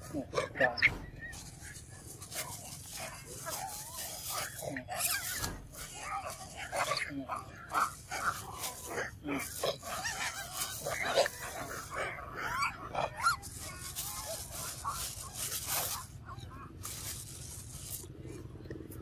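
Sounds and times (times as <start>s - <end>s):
monkey squeaks and grunts: 0.0s - 18.1s
rustling grass: 0.0s - 18.6s
monkeys crunching and chewing: 0.0s - 19.0s.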